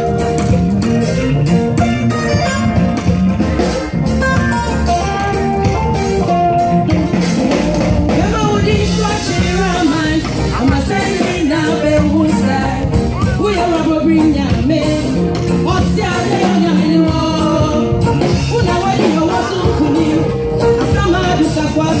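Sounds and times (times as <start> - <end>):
live band chords: 0.0 - 22.0.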